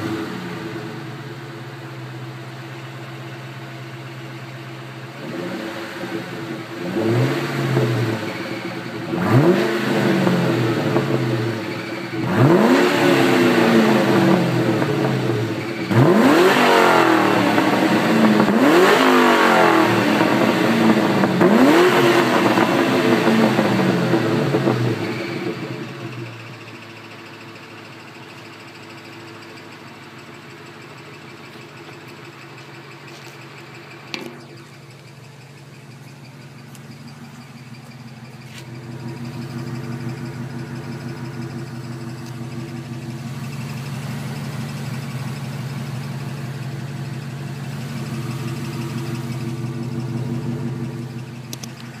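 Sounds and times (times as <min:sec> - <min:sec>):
car exhaust idling: 0:00.0 - 0:52.0.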